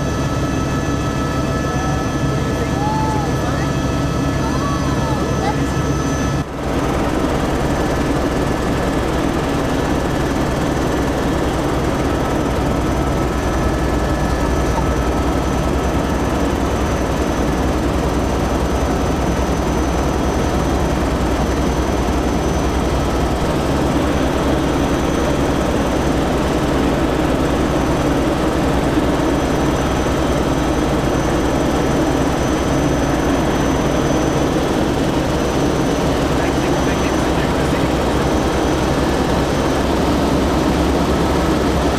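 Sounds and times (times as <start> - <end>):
helicopter engine and rotor drone: 0.0 - 41.9.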